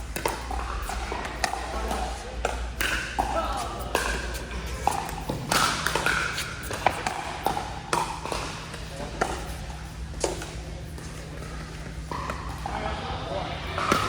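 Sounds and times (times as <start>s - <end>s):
paddles hitting plastic ball: 0.0s - 12.6s.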